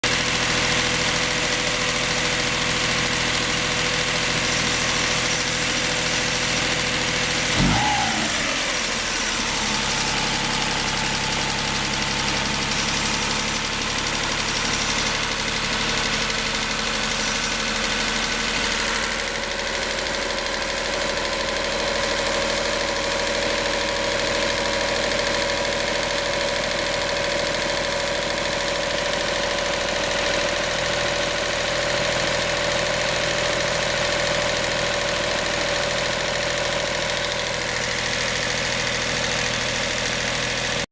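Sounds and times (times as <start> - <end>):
scooter engine running: 0.1 - 40.9.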